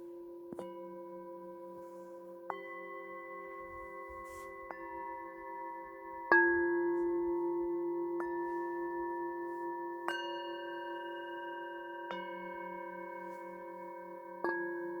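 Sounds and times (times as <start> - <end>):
metal singing bowls ringing: 0.6 - 15.0.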